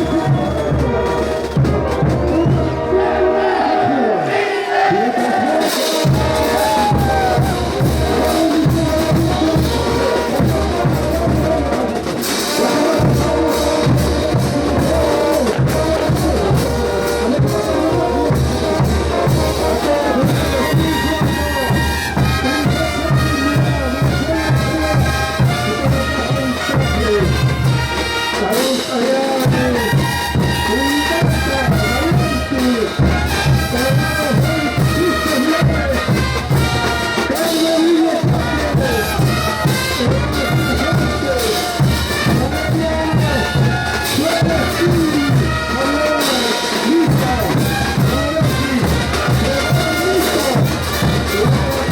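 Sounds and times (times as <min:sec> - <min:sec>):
brass band playing: 0:00.0 - 0:51.9
trumpets and trombones: 0:00.0 - 0:51.9
bass drum beat: 0:05.9 - 0:12.0, 0:12.6 - 0:28.1, 0:29.4 - 0:37.3, 0:38.1 - 0:46.1, 0:46.9 - 0:51.9.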